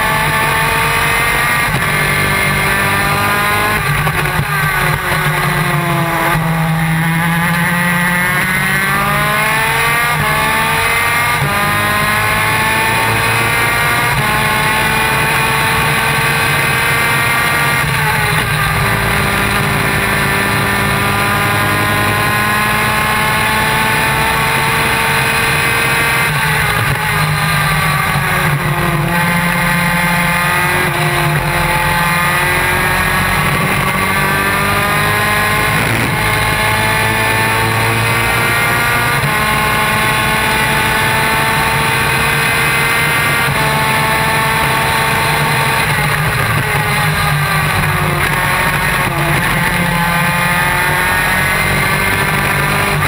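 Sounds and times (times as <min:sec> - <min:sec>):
two-stroke kart engine racing: 0:00.0 - 0:53.0.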